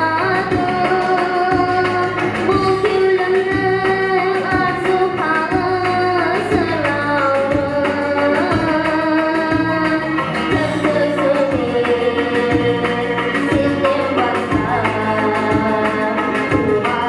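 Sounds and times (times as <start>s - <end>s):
girl singing into a microphone: 0.0s - 17.0s
instrumental accompaniment with beat: 0.0s - 17.0s.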